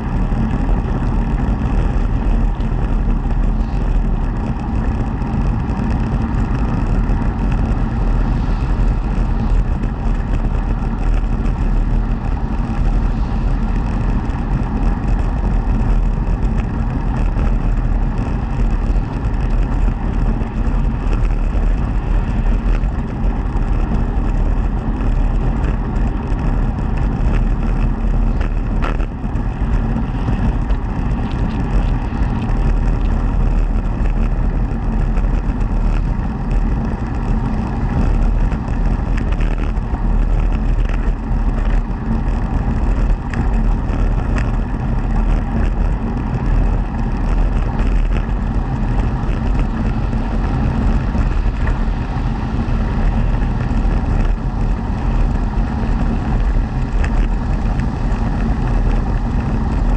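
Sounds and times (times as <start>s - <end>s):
mechanical hum: 0.0s - 59.9s
vehicle rolling rumble and wind: 0.0s - 59.9s.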